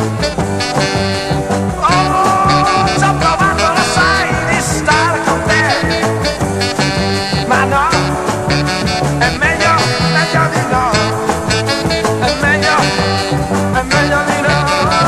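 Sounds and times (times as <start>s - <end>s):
pop instrumental with bass and drums: 0.0s - 15.0s.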